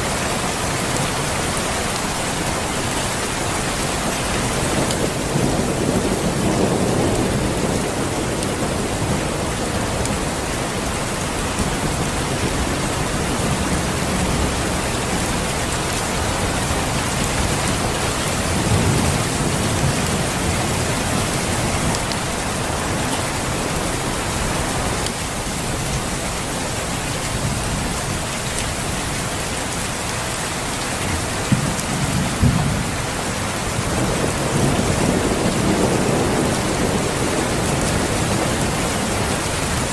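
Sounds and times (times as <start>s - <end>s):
heavy rain falling: 0.0s - 39.9s
thunder rumbling: 4.0s - 28.3s, 31.0s - 39.9s.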